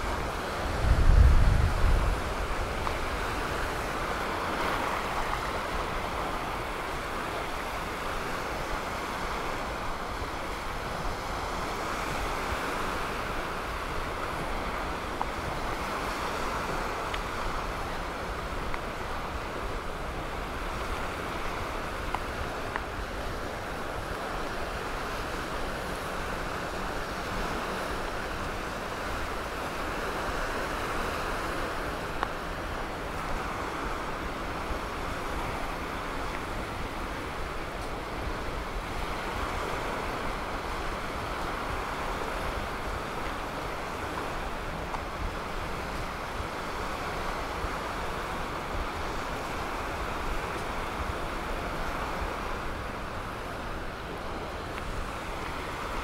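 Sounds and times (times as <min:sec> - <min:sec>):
surf washing: 0:00.0 - 0:56.0
wind: 0:00.0 - 0:56.0.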